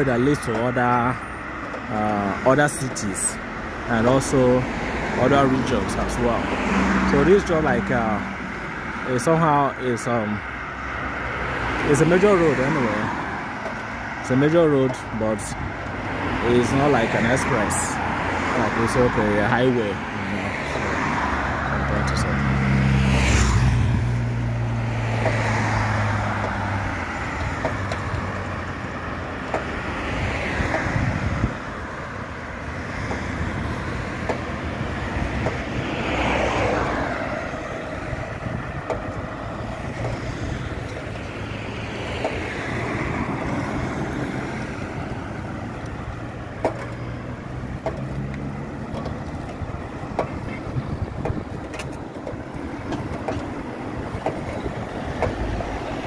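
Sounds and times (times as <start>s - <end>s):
road traffic rushing: 0.0s - 56.0s
vehicles passing: 0.0s - 56.0s.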